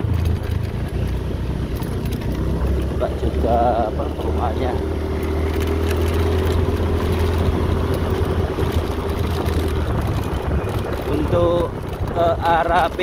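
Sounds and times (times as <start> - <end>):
motorcycle engine drone: 0.0 - 13.0
road noise: 0.0 - 13.0.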